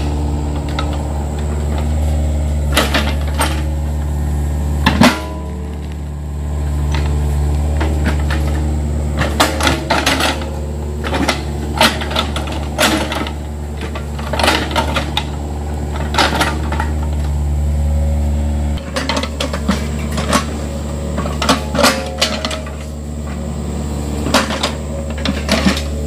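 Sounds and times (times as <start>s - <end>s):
metallic clanks of excavator bucket: 0.0s - 17.5s, 18.8s - 26.0s
diesel engine running: 0.0s - 26.0s.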